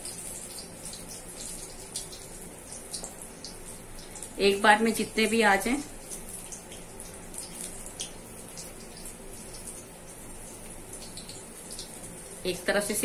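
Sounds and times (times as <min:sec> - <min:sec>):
frying oil sizzling: 0:00.0 - 0:13.0
small oil crackles: 0:00.0 - 0:13.0.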